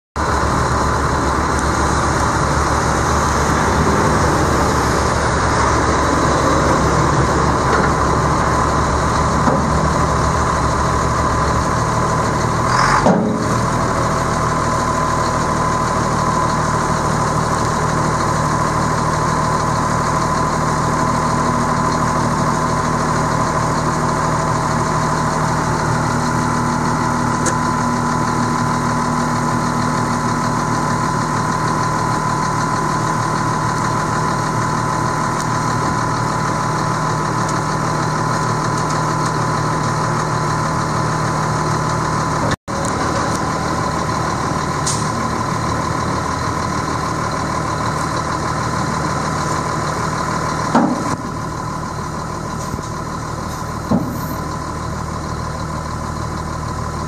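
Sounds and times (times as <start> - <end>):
diesel engine idling: 0.2 - 57.0.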